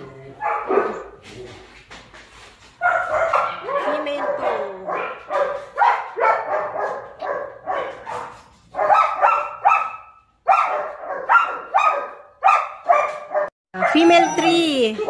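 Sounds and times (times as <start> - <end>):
dog barking: 0.4 - 1.2, 2.8 - 14.5.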